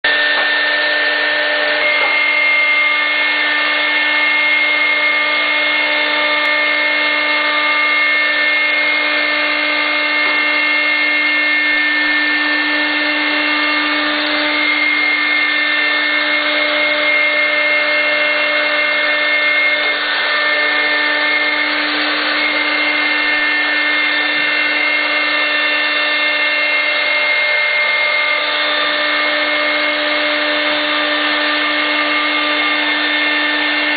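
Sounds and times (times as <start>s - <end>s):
router spindle whine: 0.0s - 33.9s.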